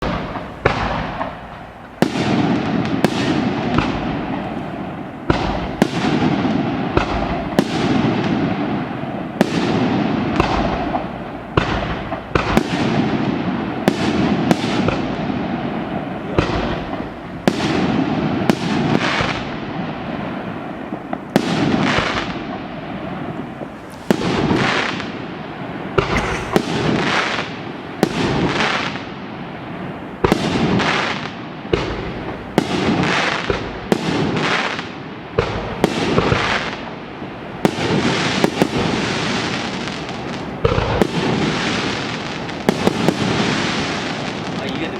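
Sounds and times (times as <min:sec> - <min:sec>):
fireworks bangs: 0:00.0 - 0:44.9
fireworks crackling and hissing: 0:00.0 - 0:44.9.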